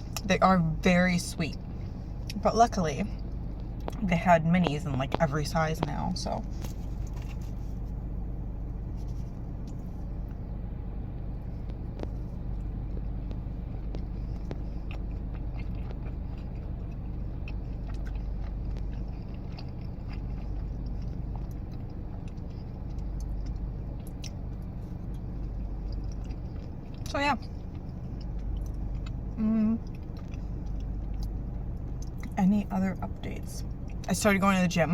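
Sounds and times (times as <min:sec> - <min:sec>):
car idling: 0:00.0 - 0:34.9
chewing a soft cookie: 0:01.4 - 0:08.0, 0:11.1 - 0:32.6.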